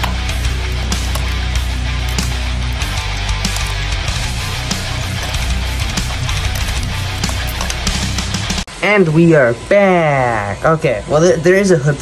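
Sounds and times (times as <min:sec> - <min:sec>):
heavy rock music: 0:00.0 - 0:09.6.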